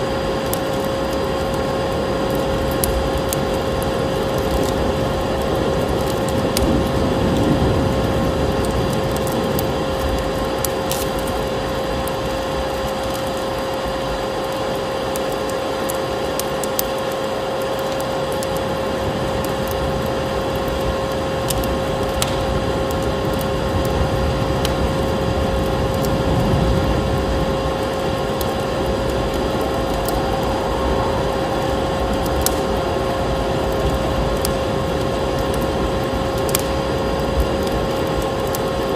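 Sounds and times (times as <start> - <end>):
fireplace crackling and popping: 0.0 - 38.9
low wind rumble: 0.0 - 38.9
vacuum cleaner motor whine: 0.0 - 38.9.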